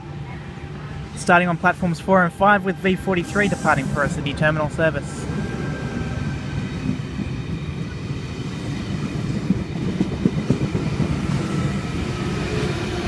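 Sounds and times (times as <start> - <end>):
faint train whine: 0.0 - 13.0
train wheels rumbling on rail: 0.0 - 13.0.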